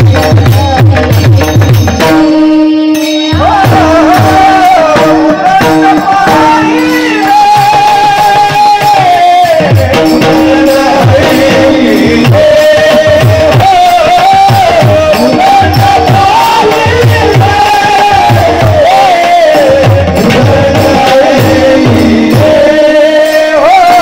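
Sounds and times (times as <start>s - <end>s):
person singing devotional song: 0.0s - 24.0s.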